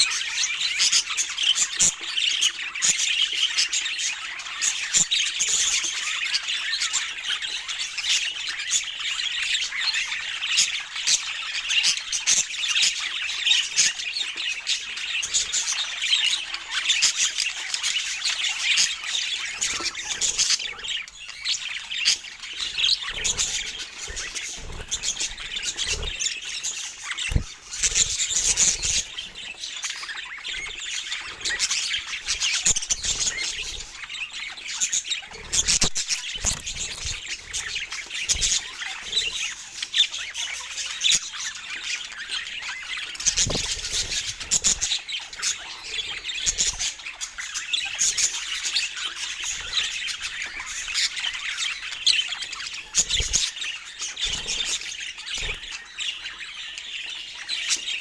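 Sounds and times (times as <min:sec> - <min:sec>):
budgerigars chattering and chirping: 0:00.0 - 0:58.0.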